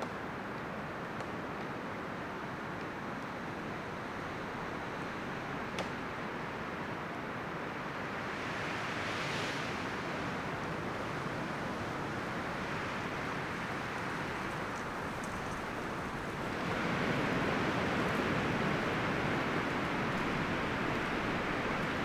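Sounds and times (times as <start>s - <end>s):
wind rustling through leaves: 0.2s - 22.0s.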